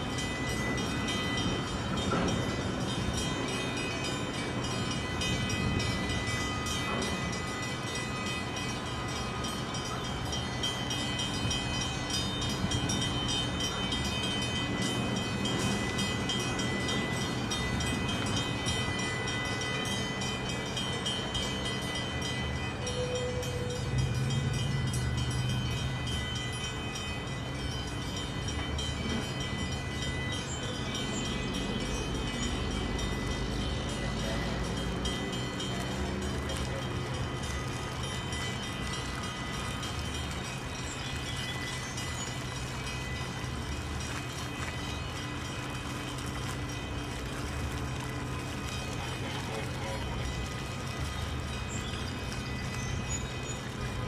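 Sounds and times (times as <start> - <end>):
diesel engine low drone: 0.0 - 54.0.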